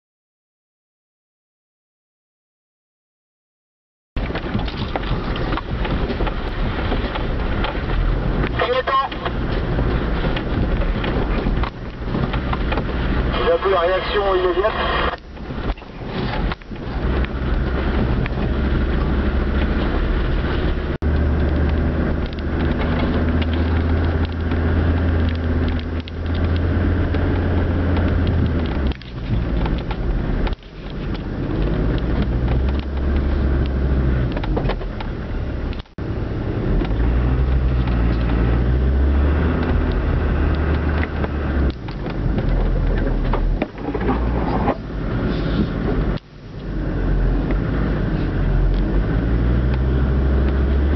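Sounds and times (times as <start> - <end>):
body and suspension rattling: 4.2 - 13.6, 15.2 - 50.9
diesel engine running at low speed: 4.2 - 50.9.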